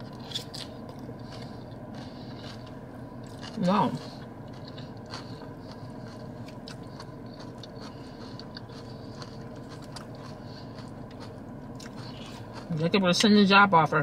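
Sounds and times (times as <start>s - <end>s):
person chewing salad: 0.0s - 12.8s
car air conditioning hum: 0.0s - 14.0s.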